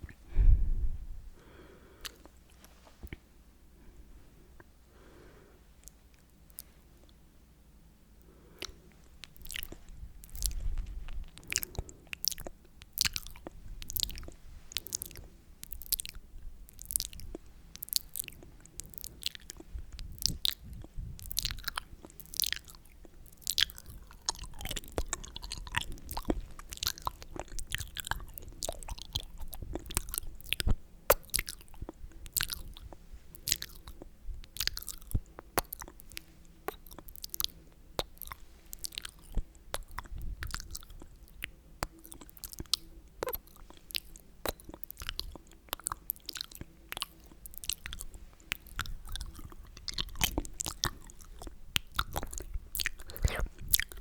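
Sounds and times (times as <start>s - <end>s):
wet mouth clicks and smacks: 8.6s - 54.0s.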